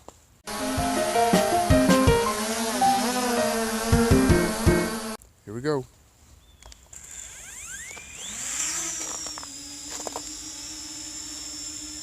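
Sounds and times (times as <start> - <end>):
drone motors whining: 0.5 - 5.2, 7.0 - 12.0.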